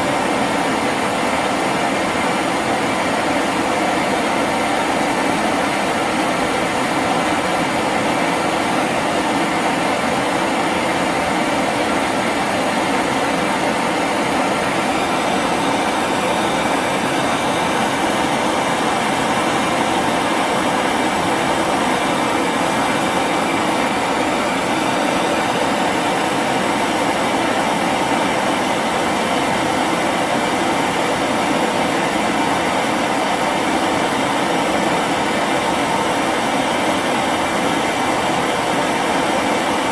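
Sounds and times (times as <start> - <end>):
gas torch flame roaring: 0.0 - 39.9.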